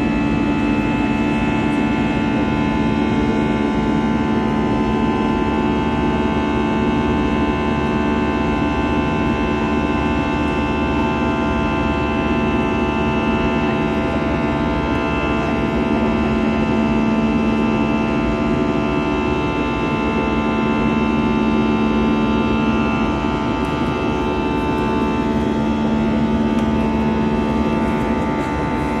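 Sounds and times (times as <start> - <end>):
constant low rumble: 0.0 - 29.0
steady mechanical hum: 0.0 - 29.0.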